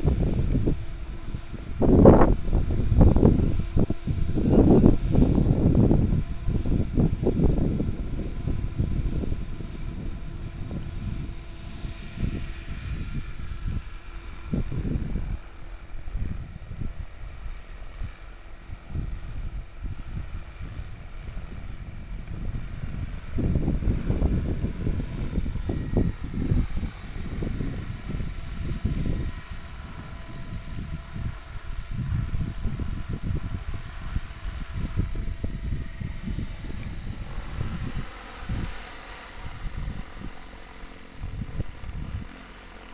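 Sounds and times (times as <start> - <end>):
model helicopter rotor whine: 0.0 - 42.9
wind buffeting microphone: 0.0 - 42.9.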